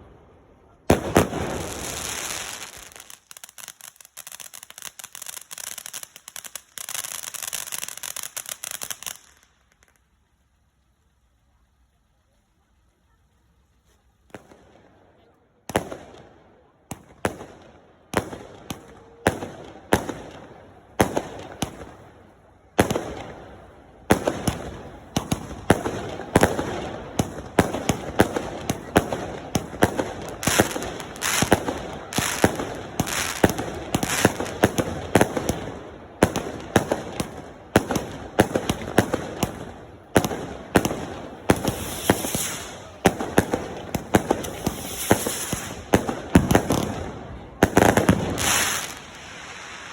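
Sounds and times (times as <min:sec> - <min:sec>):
fireworks banging: 0:00.8 - 0:10.1, 0:15.6 - 0:49.9.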